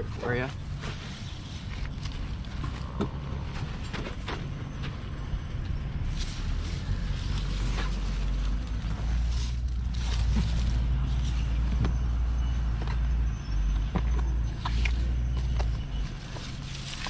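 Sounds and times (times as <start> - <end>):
creaks and crackles: 0.0 - 17.0.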